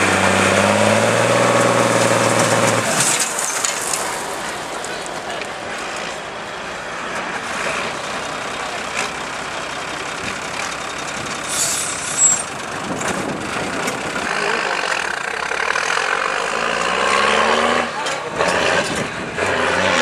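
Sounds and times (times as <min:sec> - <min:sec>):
truck engine running: 0:00.0 - 0:19.6.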